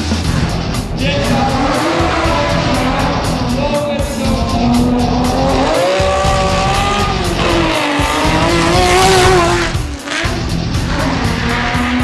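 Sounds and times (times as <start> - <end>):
music with steady beat: 0.0 - 12.0
race car engine revving: 0.0 - 12.0.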